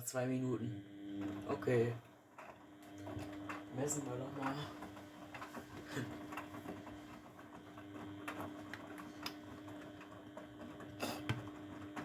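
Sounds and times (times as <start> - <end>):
washing machine motor hum: 0.0 - 12.0.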